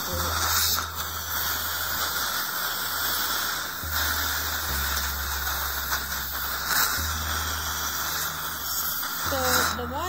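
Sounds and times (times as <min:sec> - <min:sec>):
air-water syringe spraying: 0:00.0 - 0:10.0
dental suction hissing: 0:00.0 - 0:10.0.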